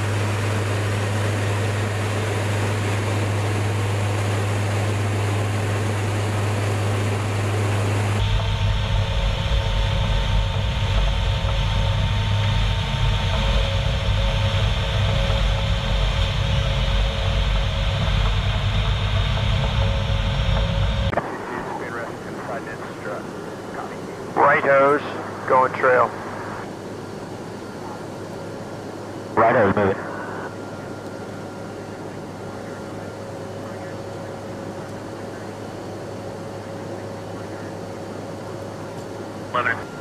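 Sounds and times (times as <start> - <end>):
deep engine rumble: 0.0 - 40.0
steady high whine: 0.0 - 40.0
turboprop engines droning: 0.0 - 40.0.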